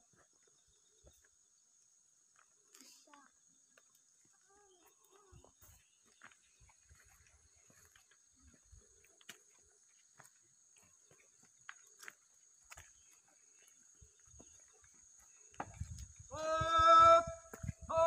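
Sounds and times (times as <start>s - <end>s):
faint insect drone: 0.0s - 18.0s.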